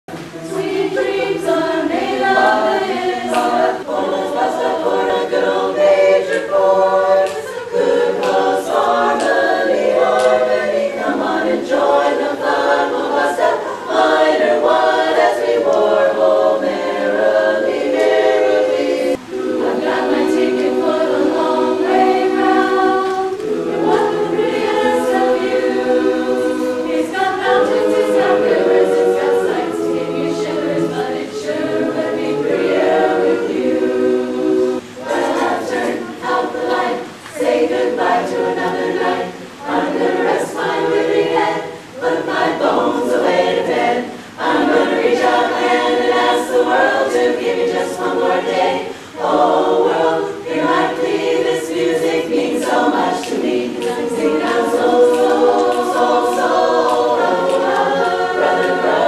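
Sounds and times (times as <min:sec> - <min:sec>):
women's chorus singing a cappella: 0:00.1 - 0:59.0.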